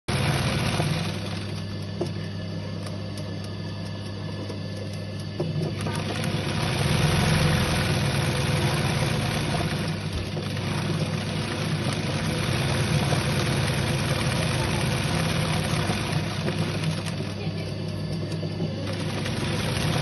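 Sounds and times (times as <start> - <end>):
sewing machine running: 0.0 - 1.8, 5.5 - 20.0.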